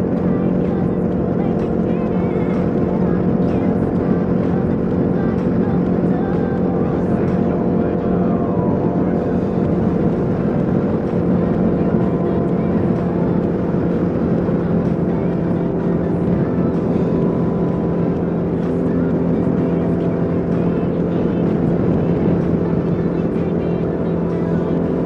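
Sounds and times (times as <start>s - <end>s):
motorcycle engine cruising: 0.0s - 25.0s
wind rushing over microphone: 0.0s - 25.0s.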